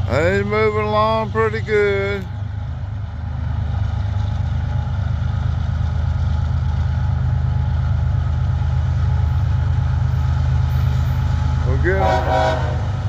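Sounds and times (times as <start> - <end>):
locomotive engines rumbling: 0.0 - 13.0.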